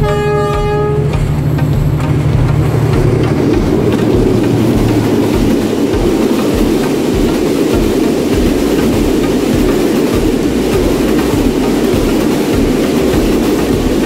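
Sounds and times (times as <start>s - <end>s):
diesel locomotive engine drone: 0.0s - 14.0s
train coaches rushing past: 0.0s - 14.0s
train wheel clatter: 0.0s - 14.0s.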